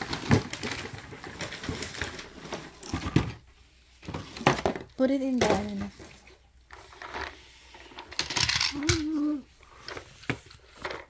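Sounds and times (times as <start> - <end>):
plastic toys clattering: 0.0 - 11.0.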